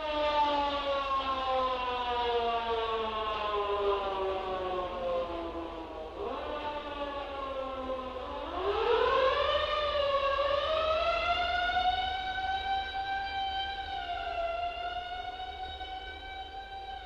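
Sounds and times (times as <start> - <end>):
fire truck mechanical siren wailing: 0.0 - 17.0.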